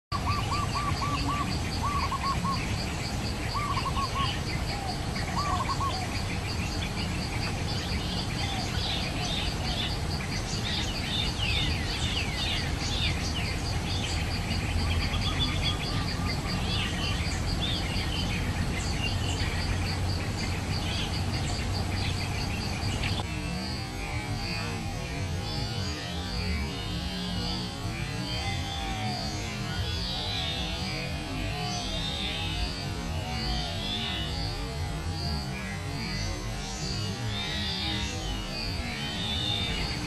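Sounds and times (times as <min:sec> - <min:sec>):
small birds chirping: 0:00.1 - 0:40.0.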